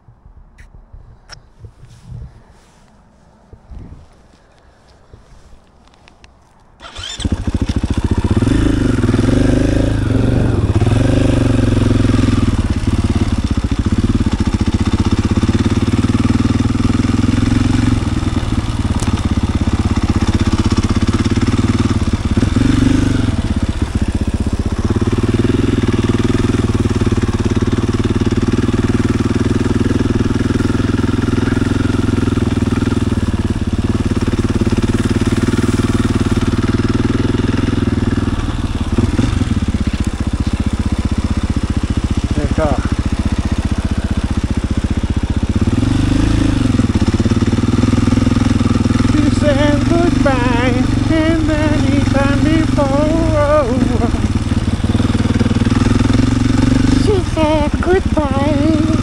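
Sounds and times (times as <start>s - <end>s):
motorcycle engine revving: 6.8s - 59.0s.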